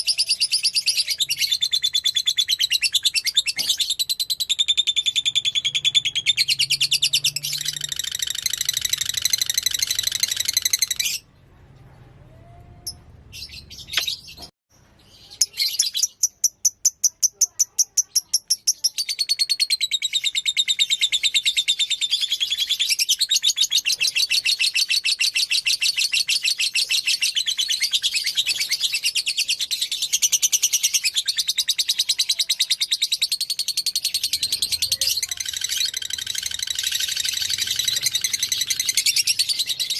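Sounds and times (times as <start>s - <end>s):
lovebird chirping: 0.0s - 11.3s, 12.4s - 39.9s.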